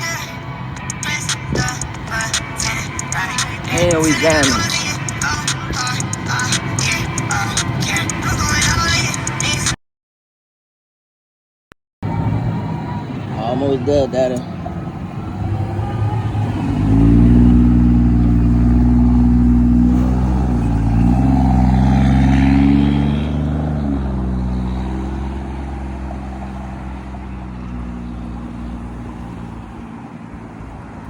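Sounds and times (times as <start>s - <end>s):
vehicle engine running: 0.0s - 9.8s, 12.0s - 31.0s.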